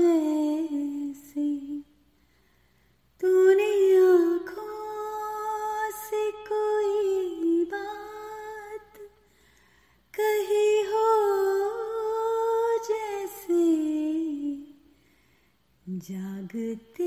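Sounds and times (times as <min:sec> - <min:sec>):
woman singing unaccompanied: 0:00.0 - 0:02.0, 0:03.2 - 0:09.2, 0:10.1 - 0:14.8, 0:15.8 - 0:17.0.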